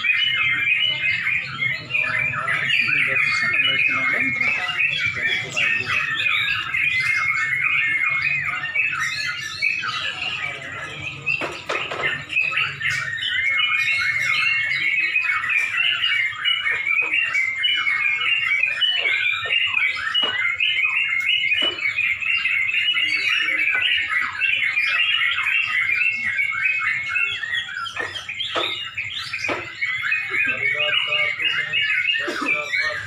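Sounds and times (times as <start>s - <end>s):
bird chorus chirping and warbling: 0.0s - 33.0s.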